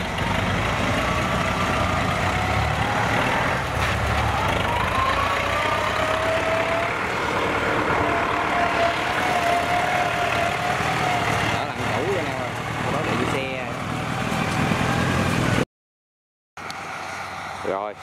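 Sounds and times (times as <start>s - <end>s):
tracked vehicle engine running: 0.0s - 15.6s, 16.6s - 18.0s.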